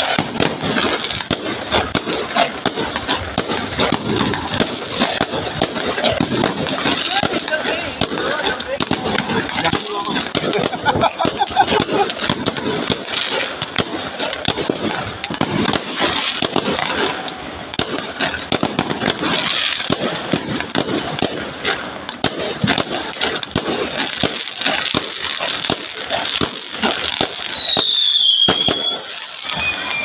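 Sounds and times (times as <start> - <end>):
fireworks popping and crackling: 0.0 - 30.0.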